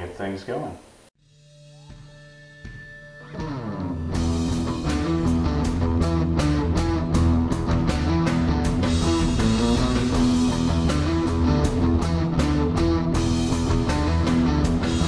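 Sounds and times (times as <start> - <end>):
rock music: 1.2 - 15.0.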